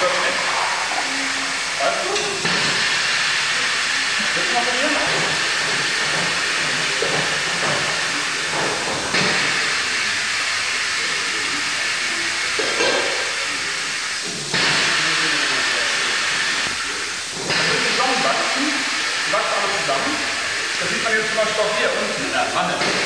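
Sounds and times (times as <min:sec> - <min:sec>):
steam hiss: 0:00.0 - 0:23.0.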